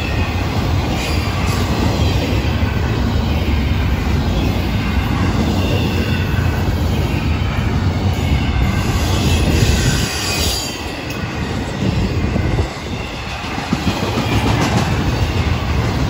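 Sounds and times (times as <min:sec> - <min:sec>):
high wheel squeal: 0:00.0 - 0:13.6
freight train wheels rumbling: 0:00.0 - 0:16.0.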